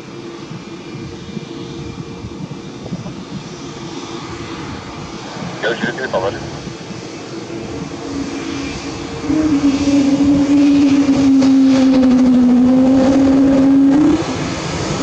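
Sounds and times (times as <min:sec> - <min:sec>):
jet engines running up: 0:00.0 - 0:15.0.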